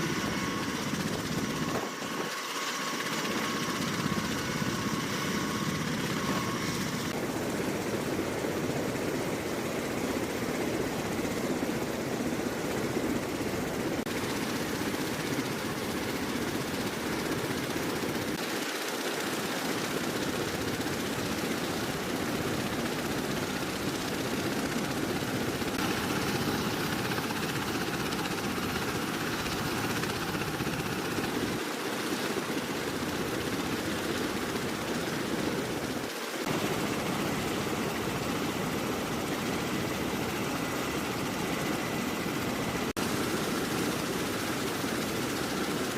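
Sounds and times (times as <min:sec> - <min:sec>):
aircraft rotor and engine noise: 0:00.0 - 0:45.9.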